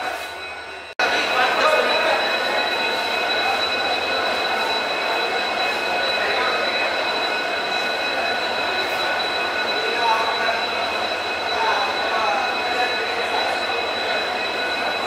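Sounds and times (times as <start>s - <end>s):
high-pitched whine: 0.0s - 15.0s
train running noise: 0.0s - 15.0s.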